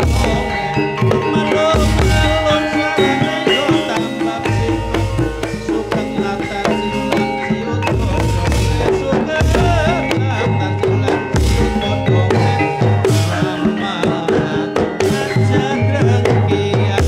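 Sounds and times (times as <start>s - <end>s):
hand drums: 0.0s - 17.0s
ringing metal percussion: 0.0s - 17.0s.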